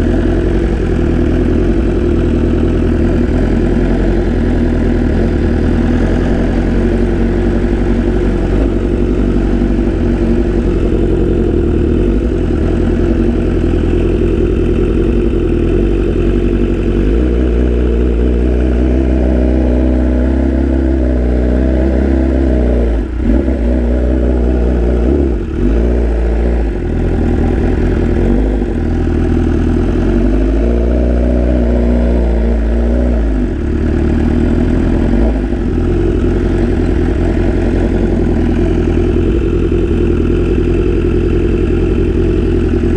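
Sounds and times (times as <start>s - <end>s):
sport bike engine revving: 0.0s - 42.9s.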